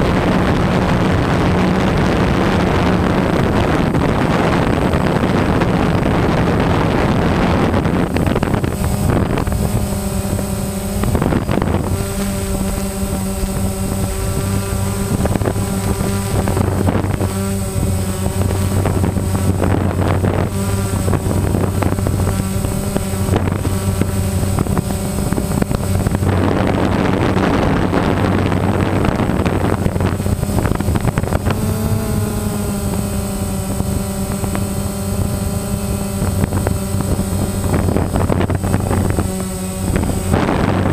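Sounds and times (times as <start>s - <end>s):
drone propellers humming: 0.0s - 40.9s
wind buffeting microphone: 0.0s - 40.9s.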